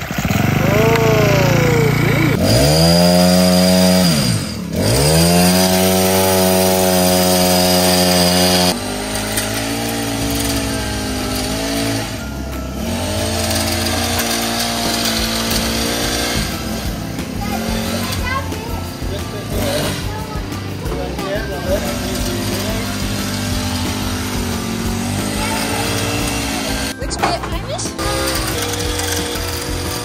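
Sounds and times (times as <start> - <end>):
chainsaw starter cord pull: 0.0 - 1.6, 2.3 - 30.0
chainsaw engine running: 0.0 - 30.0.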